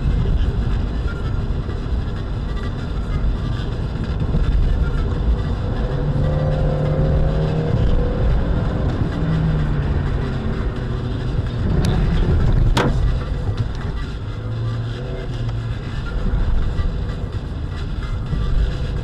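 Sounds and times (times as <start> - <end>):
humming engine note: 0.0 - 19.0
tyre and engine rumble: 0.0 - 19.0.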